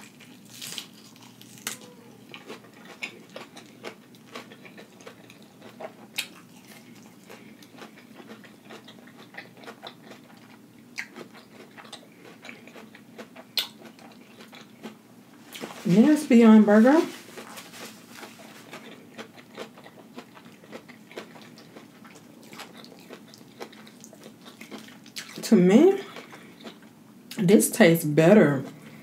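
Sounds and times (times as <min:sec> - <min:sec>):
person chewing food: 0:00.0 - 0:15.8, 0:17.2 - 0:27.0.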